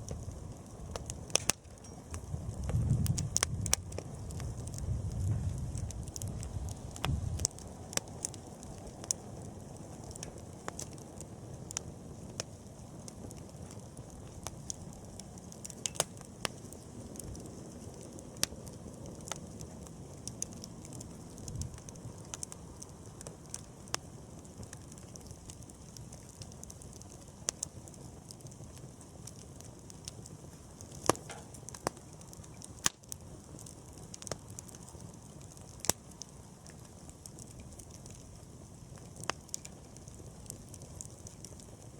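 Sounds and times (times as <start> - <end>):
burning wood crackling and popping: 0.0 - 41.9
rush of campfire flames: 0.0 - 41.9.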